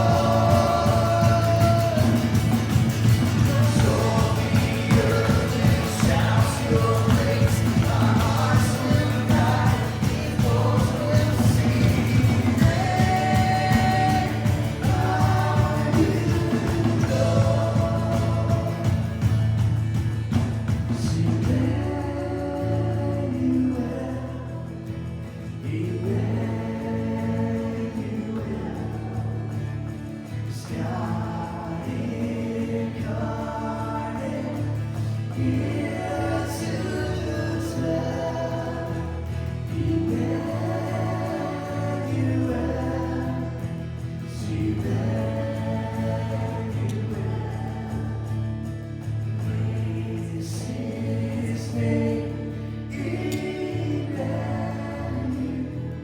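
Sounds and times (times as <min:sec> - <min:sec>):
voices singing slow song: 0:00.0 - 0:56.0.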